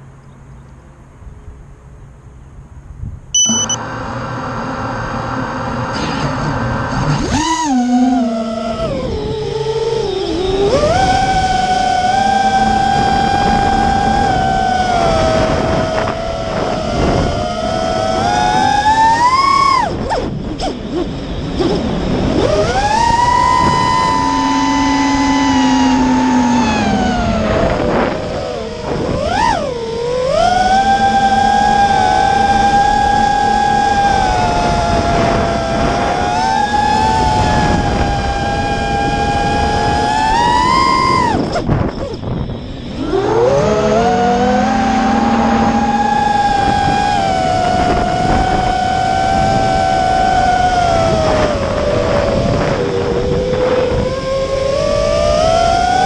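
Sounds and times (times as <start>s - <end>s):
model aircraft motor whine: 3.4s - 56.0s.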